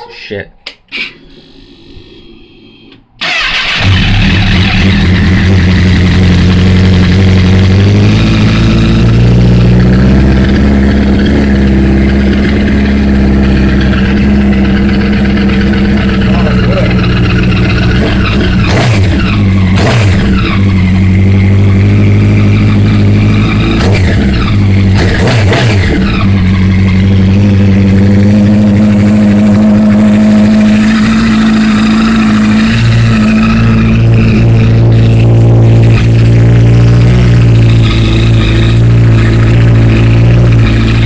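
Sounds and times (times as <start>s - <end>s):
motorcycle engine idling and revving: 3.2s - 41.0s.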